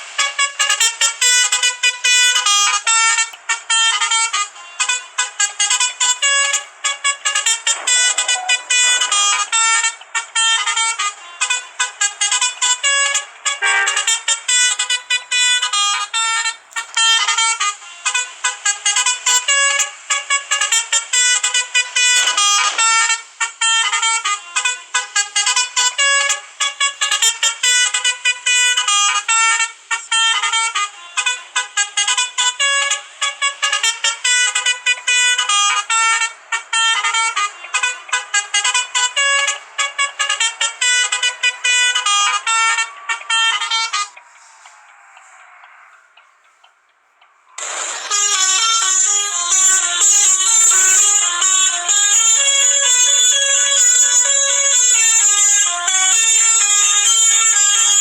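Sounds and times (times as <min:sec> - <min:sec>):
multi-tone bus horn tune: 0:00.0 - 0:44.7, 0:47.6 - 0:58.0.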